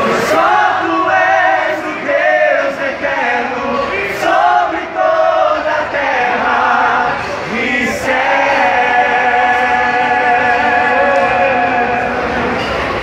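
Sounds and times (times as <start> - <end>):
group singing in unison: 0.0 - 12.8.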